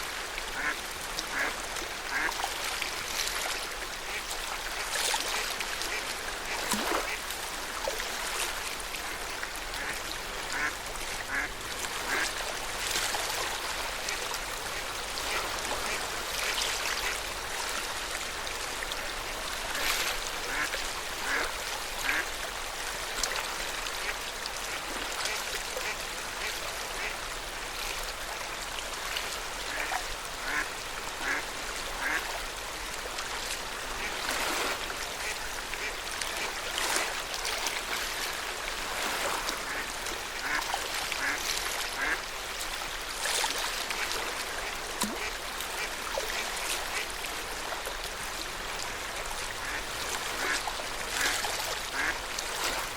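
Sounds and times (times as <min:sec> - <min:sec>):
small waves lapping: 0:00.0 - 0:52.9
water birds calling: 0:00.0 - 0:52.9.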